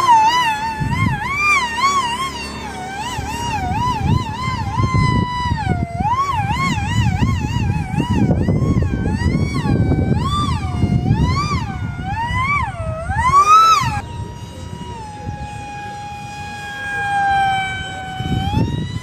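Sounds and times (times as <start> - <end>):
model plane motor whining: 0.0 - 19.0
wind rumbling on microphone: 0.0 - 19.0.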